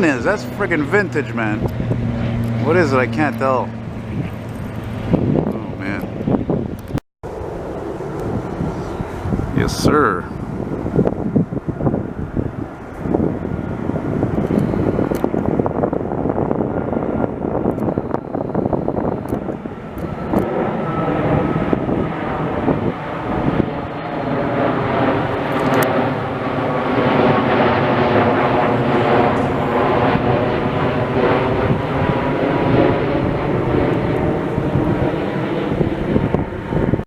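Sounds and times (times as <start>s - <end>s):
jet airliner engines droning: 0.0s - 37.0s.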